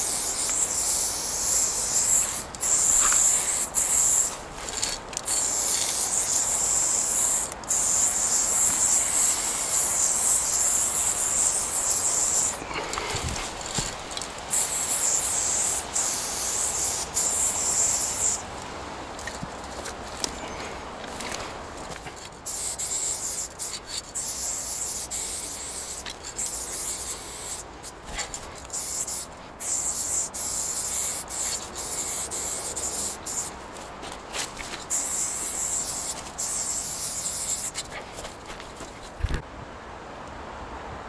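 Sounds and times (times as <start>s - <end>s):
spray paint hissing: 0.0s - 18.5s, 21.8s - 38.3s.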